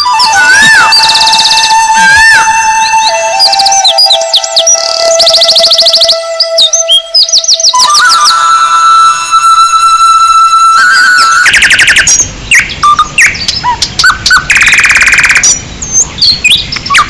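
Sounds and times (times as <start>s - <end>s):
long steady electronic tone: 0.0s - 13.0s, 14.0s - 15.4s
fast rattling trill: 0.0s - 15.6s
bird chirps and swooping calls: 0.0s - 17.0s.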